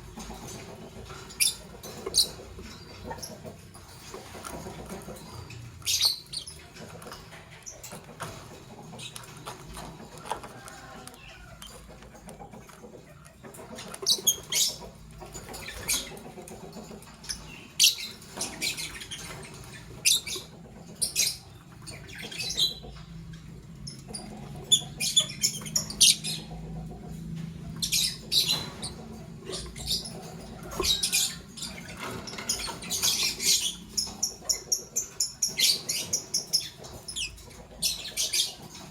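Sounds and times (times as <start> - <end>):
lovebirds chirping: 1.0 - 6.9, 13.2 - 38.9.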